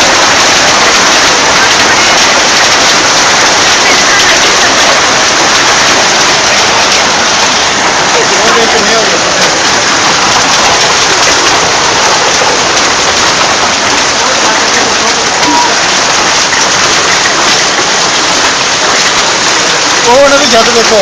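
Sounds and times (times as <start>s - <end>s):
hailstones pelting down: 0.0s - 21.0s.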